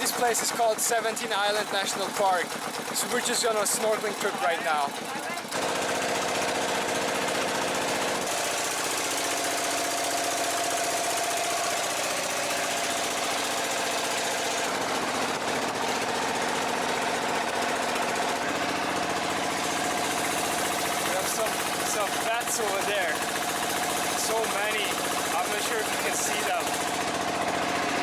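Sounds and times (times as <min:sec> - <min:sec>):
boat engine knocking: 0:00.0 - 0:28.0.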